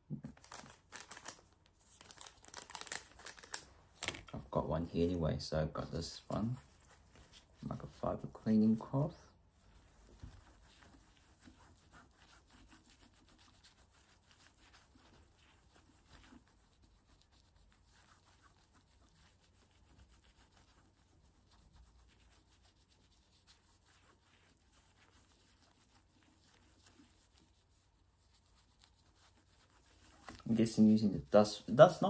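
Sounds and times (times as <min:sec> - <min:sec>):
cloth rubbing on glass: 0:06.2 - 0:32.0.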